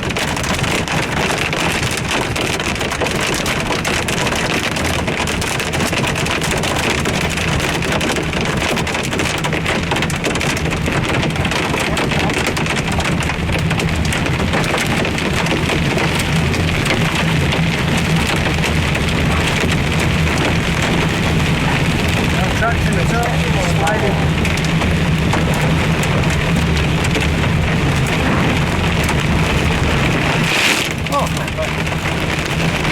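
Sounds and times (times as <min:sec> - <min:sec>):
hail and rain drumming on car roof: 0:00.0 - 0:32.9
low car hum: 0:00.0 - 0:32.9.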